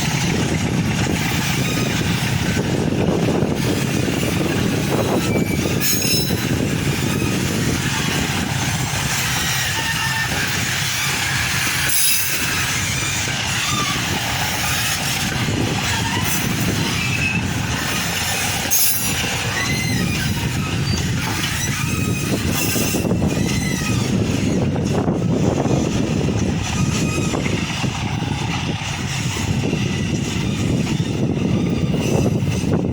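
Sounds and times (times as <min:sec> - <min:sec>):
freight train rumble: 0:00.0 - 0:32.9
train wheels squealing on rails: 0:00.0 - 0:32.9.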